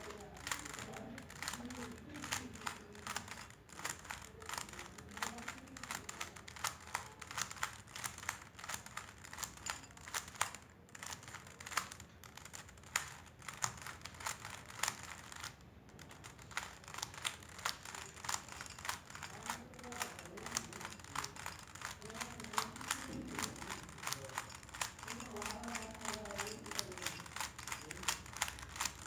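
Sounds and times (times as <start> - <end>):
puzzle cube layers clicking: 0.0 - 29.0.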